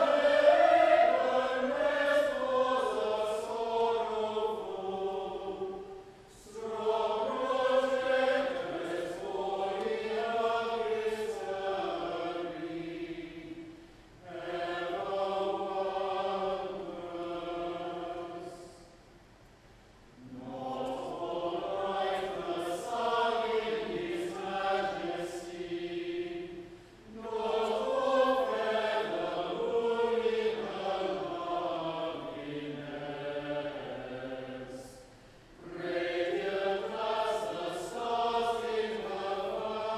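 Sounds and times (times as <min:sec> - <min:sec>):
unaccompanied plainchant: 0:00.0 - 0:18.8, 0:20.2 - 0:39.9.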